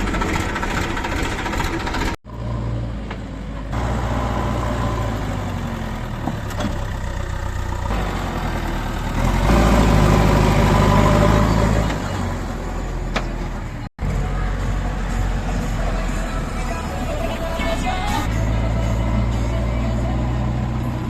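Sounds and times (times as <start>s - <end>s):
heavy diesel engine revving: 0.0s - 21.0s.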